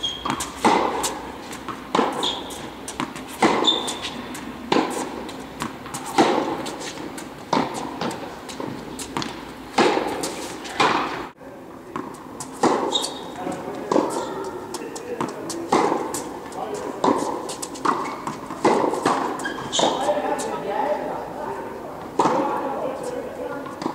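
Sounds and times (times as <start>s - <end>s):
shoes squeaking on court: 0.0s - 11.3s, 12.0s - 20.7s
tennis ball bouncing on court: 0.0s - 11.3s, 11.9s - 20.5s, 22.2s - 22.6s, 23.6s - 23.9s
tennis ball struck by rackets: 0.0s - 11.3s, 11.9s - 20.3s, 22.2s - 22.6s.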